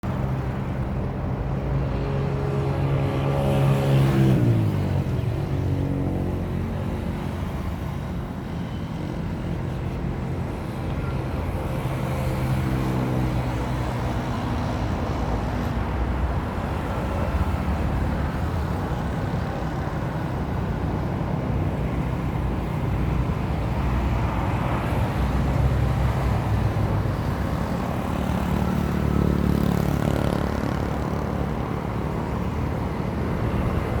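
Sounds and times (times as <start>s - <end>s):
road or wind noise: 0.0s - 34.0s.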